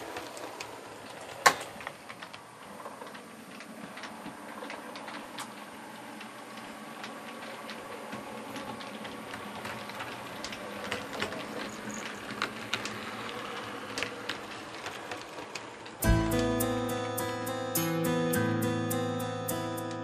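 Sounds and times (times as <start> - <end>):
model train whirring: 0.0 - 16.1
wheels clicking over rail joints: 0.0 - 20.0.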